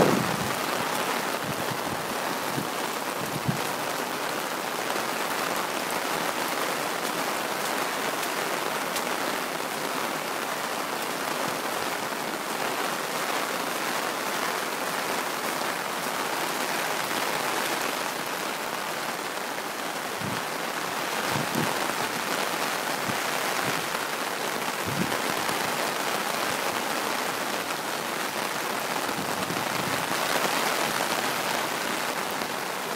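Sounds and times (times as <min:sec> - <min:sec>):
heavy rain falling: 0:00.0 - 0:32.9.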